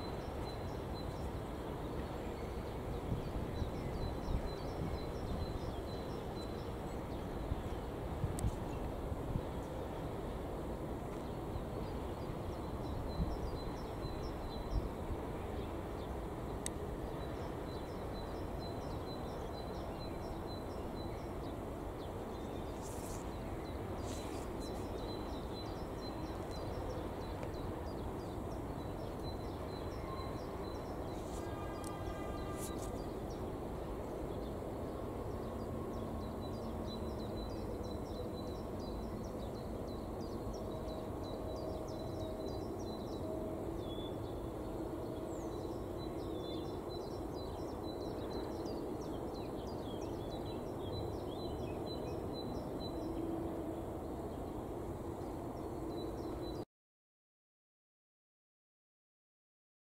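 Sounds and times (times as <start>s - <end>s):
distant freight train rumble: 0.0s - 56.6s.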